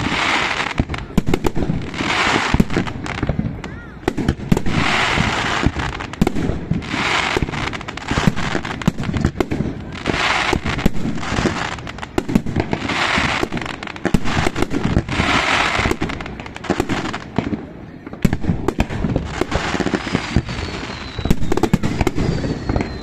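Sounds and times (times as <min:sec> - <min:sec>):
fireworks hissing rush: 0:00.0 - 0:23.0
fireworks popping and crackling: 0:00.0 - 0:23.0.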